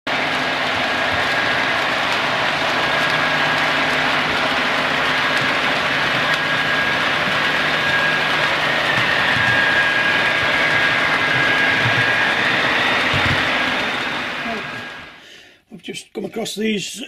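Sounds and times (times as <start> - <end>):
high motor whine: 0.1 - 15.2
model train wheels rolling on track: 0.1 - 15.2.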